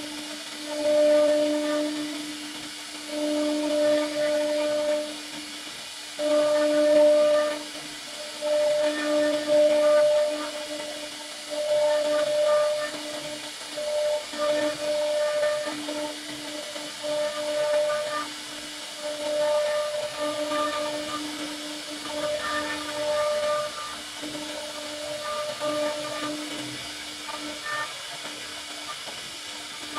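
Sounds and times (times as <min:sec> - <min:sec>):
router spindle whining: 0:00.0 - 0:05.4, 0:06.0 - 0:29.9
hiss of cutting wood: 0:00.0 - 0:29.9.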